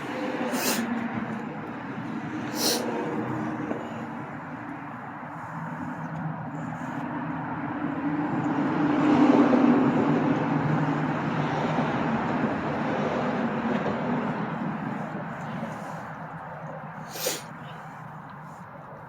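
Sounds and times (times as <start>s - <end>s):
vehicle passing by: 0.0s - 17.6s.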